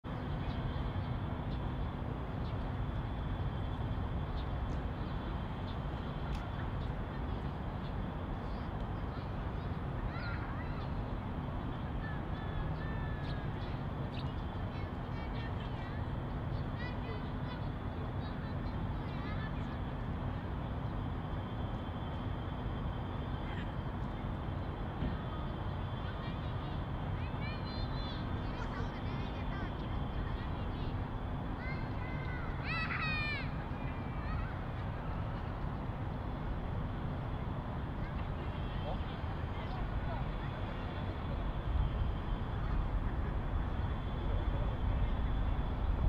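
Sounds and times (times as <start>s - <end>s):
low urban rumble: 0.0s - 46.0s
faint high hum: 0.1s - 46.0s
faint distant voices: 4.7s - 46.0s.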